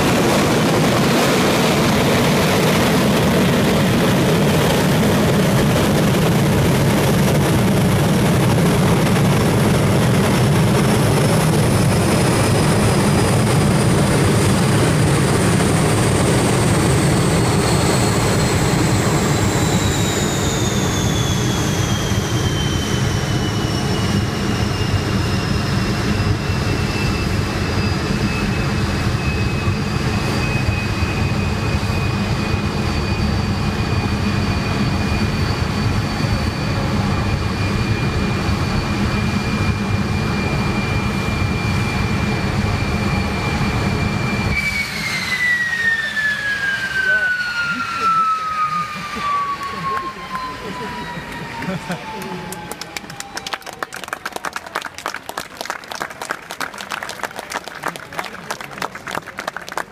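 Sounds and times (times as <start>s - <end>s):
high compressor whine: 0.0s - 53.6s
jet engine roar: 0.0s - 59.9s.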